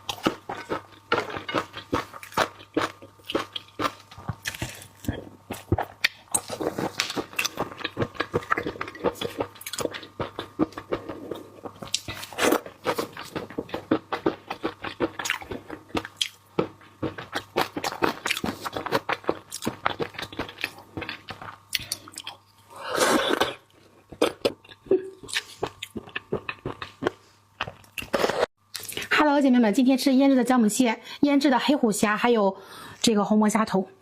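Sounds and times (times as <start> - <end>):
chewing and biting crunches: 0.0 - 22.4, 23.2 - 29.1.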